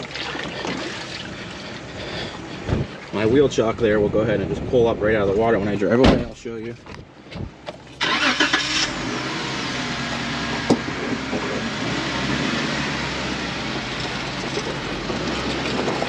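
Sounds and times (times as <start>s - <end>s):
vehicle engine and tyre noise: 0.0s - 16.0s.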